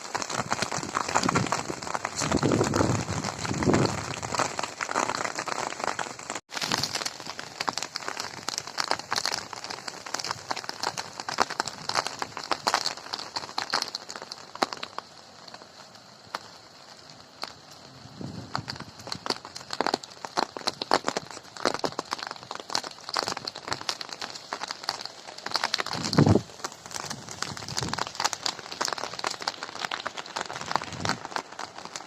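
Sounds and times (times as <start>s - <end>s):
rain falling: 0.0s - 32.0s
raindrops ticking and splatting: 0.0s - 32.0s.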